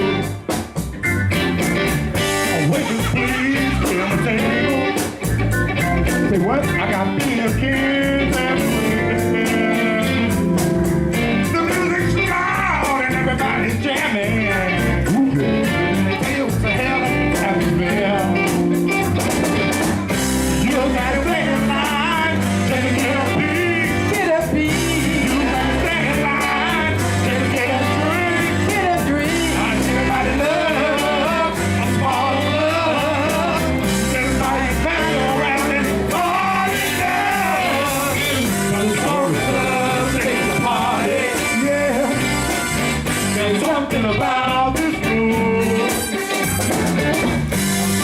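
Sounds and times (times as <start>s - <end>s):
soul band playing: 0.0s - 48.0s.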